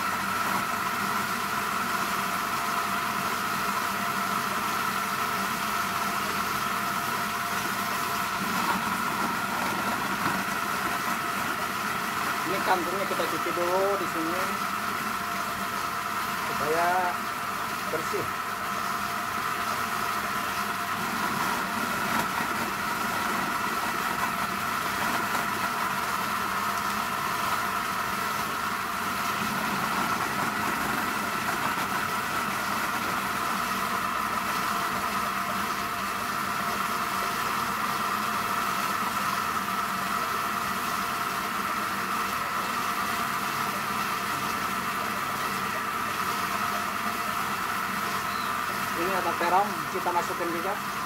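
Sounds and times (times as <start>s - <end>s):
electric chopper motor whine: 0.0s - 51.0s.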